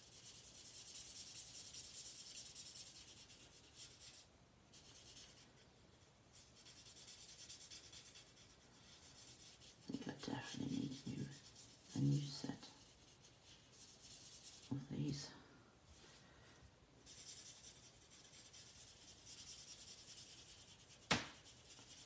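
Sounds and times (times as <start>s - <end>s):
marker nib scratching on card: 0.0s - 5.6s, 6.3s - 14.7s, 17.0s - 22.0s.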